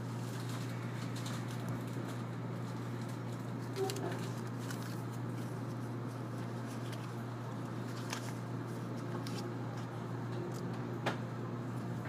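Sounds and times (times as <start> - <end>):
train low hum and rumble: 0.0 - 12.0.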